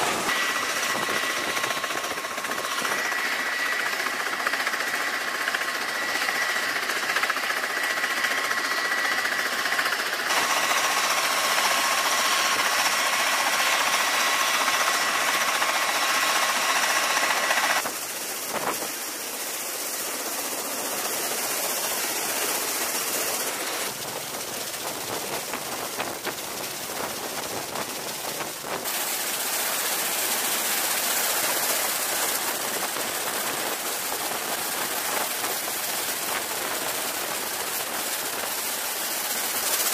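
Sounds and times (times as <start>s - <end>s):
aircraft rotor and engine rush: 0.0s - 39.9s.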